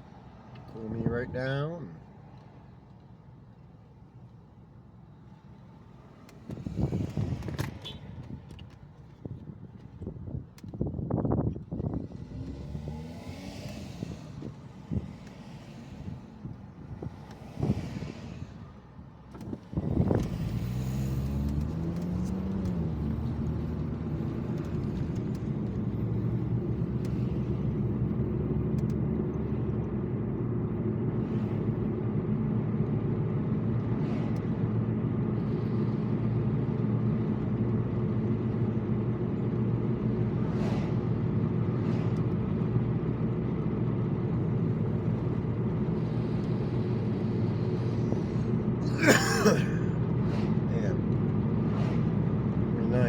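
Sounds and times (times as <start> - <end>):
car engine driving: 0.0 - 53.0.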